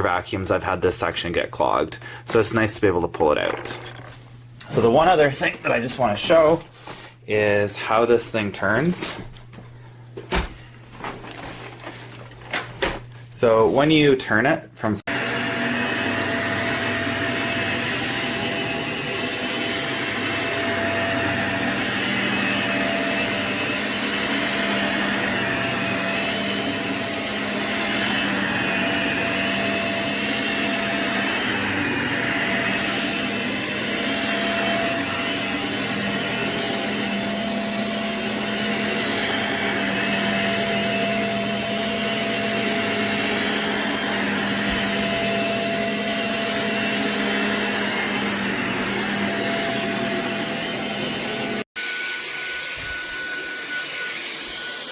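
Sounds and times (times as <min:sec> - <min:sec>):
upright vacuum cleaner running: 0:00.6 - 0:14.1, 0:15.1 - 0:54.9.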